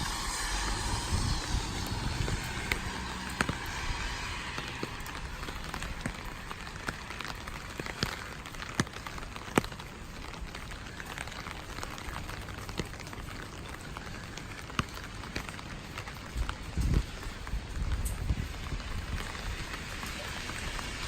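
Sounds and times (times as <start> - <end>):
raindrops tapping close by: 0.0 - 21.0
steady rainfall: 0.0 - 21.0.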